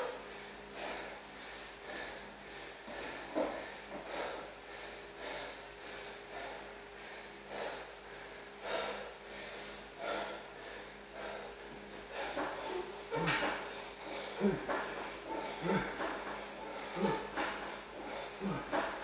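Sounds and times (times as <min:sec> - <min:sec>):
man breathing hard: 0:00.0 - 0:19.0.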